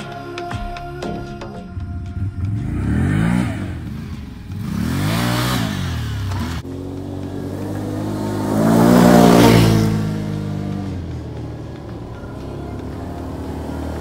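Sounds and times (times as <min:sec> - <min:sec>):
atv engines revving: 0:02.0 - 0:14.0
quad bike passing by: 0:02.2 - 0:14.0.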